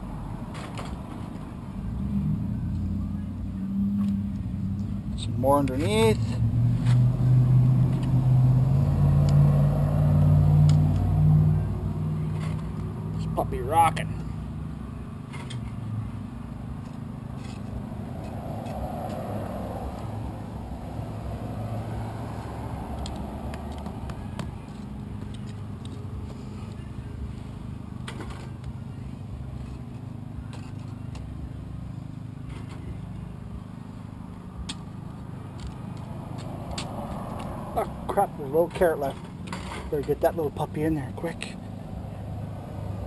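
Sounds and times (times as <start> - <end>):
engine running low rumble: 0.0 - 43.0.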